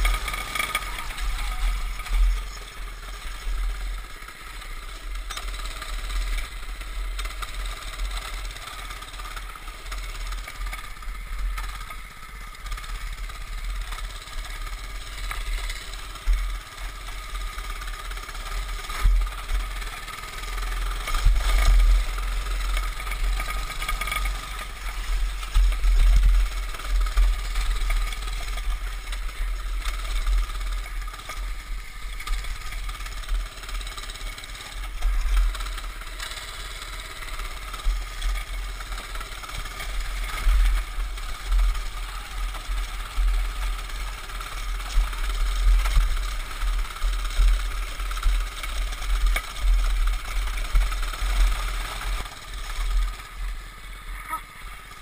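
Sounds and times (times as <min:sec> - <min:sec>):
small motorbike engine running: 0:00.0 - 0:55.0.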